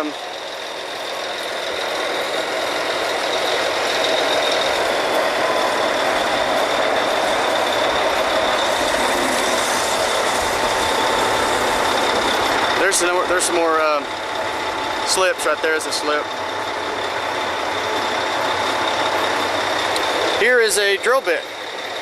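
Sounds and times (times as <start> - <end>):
drilling rig machinery din: 0.0 - 22.0
faint high whine: 0.1 - 22.0.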